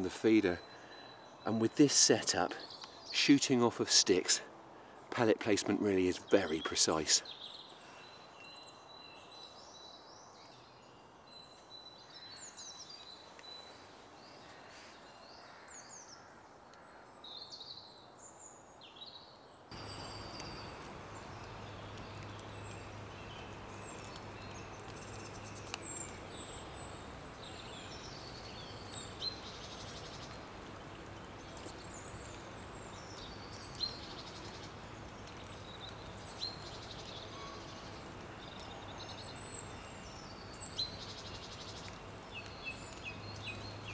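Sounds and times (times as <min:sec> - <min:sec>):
small birds chirping: 0:00.0 - 0:43.9
steady outdoor hiss: 0:00.0 - 0:43.9.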